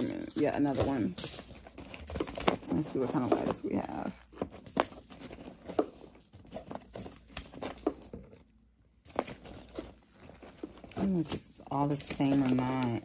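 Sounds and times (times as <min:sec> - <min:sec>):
paper packets rustling: 0:00.0 - 0:13.0.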